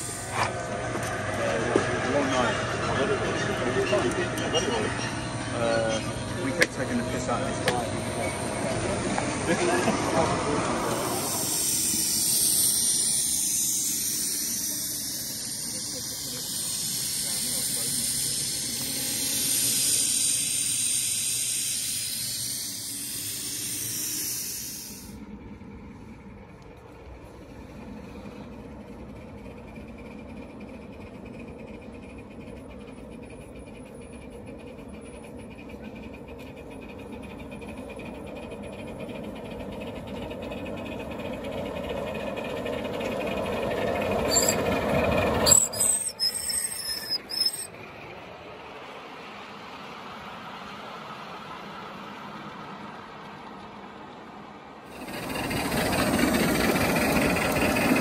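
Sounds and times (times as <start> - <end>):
steam hissing: 0.0 - 25.2, 27.2 - 47.7, 54.9 - 58.0
wheels clicking and squealing on rails: 0.0 - 58.0.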